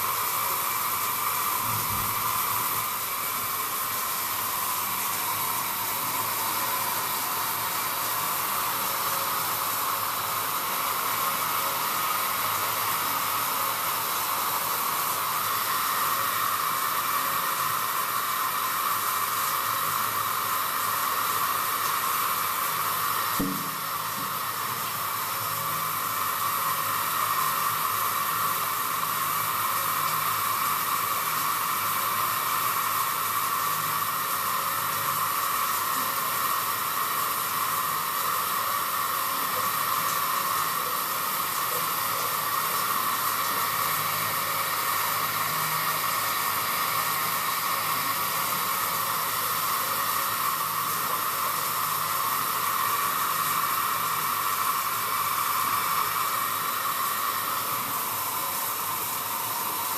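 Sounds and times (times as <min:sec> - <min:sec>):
shower head spraying water: 0:00.0 - 0:59.9.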